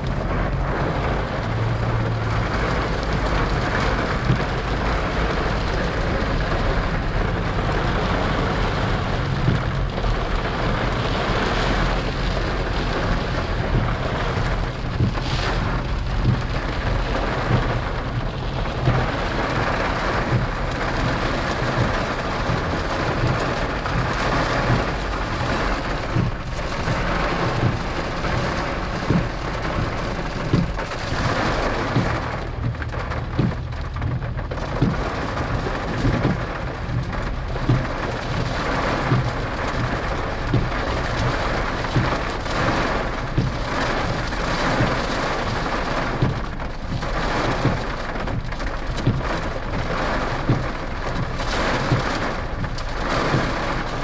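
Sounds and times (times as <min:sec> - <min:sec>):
large raindrops thudding: 0:00.0 - 0:54.0.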